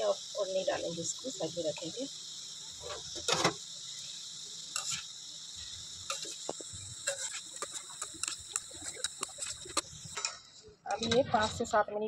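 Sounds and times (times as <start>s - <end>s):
food sizzling in hot oil: 0.0s - 11.9s.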